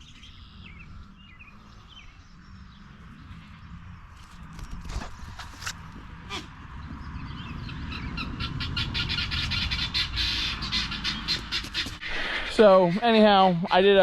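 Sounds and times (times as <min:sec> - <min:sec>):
steady low rumble: 0:00.0 - 0:11.6
birds calling: 0:00.0 - 0:14.0.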